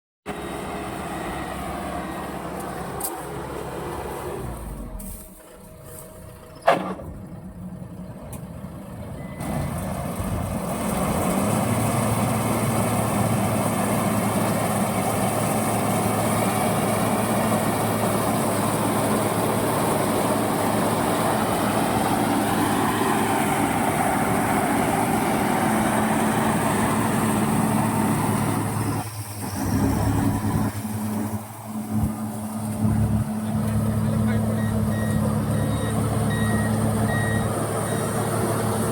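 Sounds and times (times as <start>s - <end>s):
combine harvester running: 0.3s - 38.9s.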